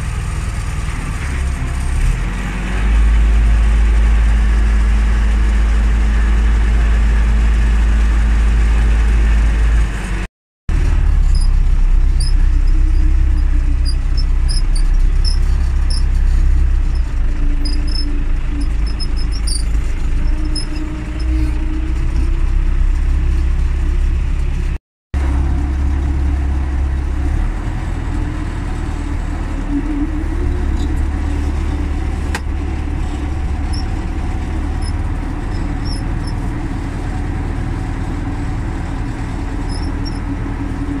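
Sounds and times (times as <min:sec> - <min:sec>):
tractor diesel engine droning: 0:00.0 - 0:41.0.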